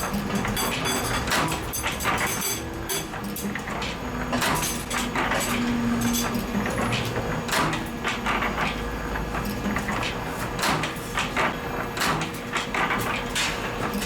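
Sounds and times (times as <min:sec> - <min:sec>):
spring-making machine clatter: 0:00.0 - 0:14.0.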